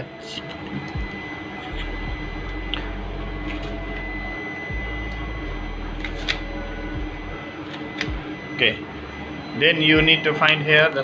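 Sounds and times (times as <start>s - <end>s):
faint high whine: 0.0s - 11.0s
steady background hum: 0.0s - 11.0s.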